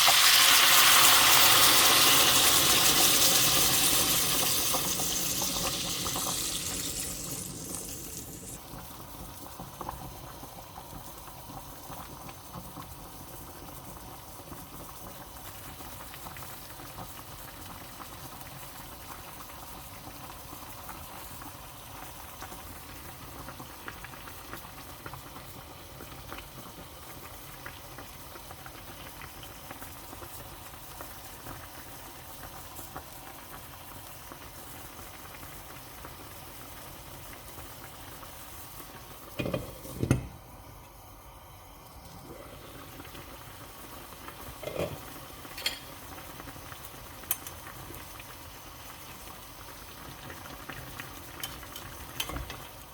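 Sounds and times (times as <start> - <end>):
broth boiling with bubbles popping: 0.0 - 52.9.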